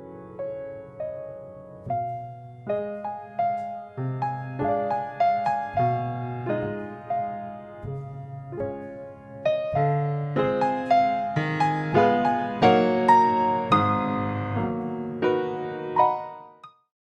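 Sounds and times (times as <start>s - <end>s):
solo piano music: 0.0s - 16.9s.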